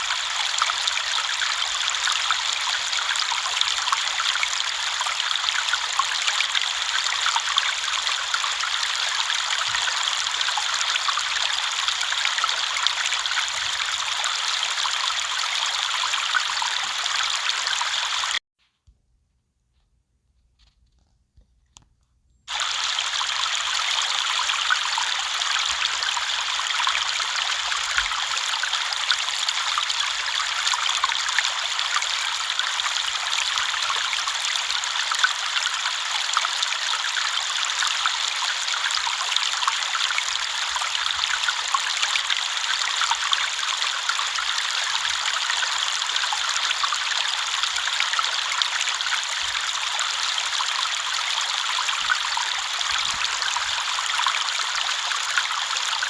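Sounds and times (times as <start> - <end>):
river water flowing: 0.0 - 18.4, 22.5 - 56.0.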